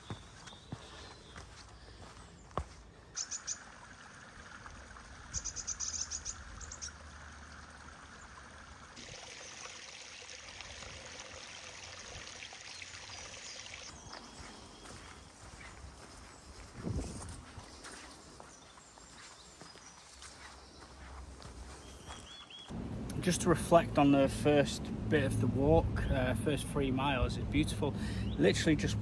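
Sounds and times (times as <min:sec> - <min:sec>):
birds chirping: 0:00.0 - 0:09.7, 0:11.8 - 0:16.7, 0:18.2 - 0:24.6, 0:26.6 - 0:29.0.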